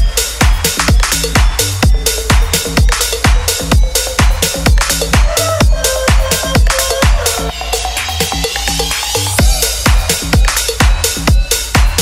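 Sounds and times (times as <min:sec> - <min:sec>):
kick drum beat: 0:00.0 - 0:07.5, 0:09.4 - 0:12.0
electronic dance music: 0:00.0 - 0:12.0.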